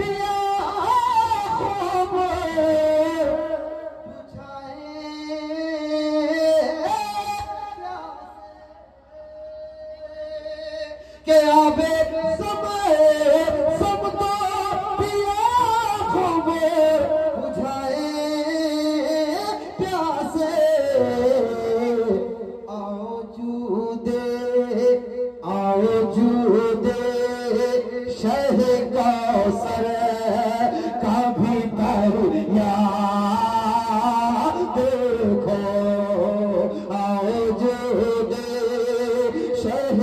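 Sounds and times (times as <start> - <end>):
man singing devotional song: 0.0 - 40.0.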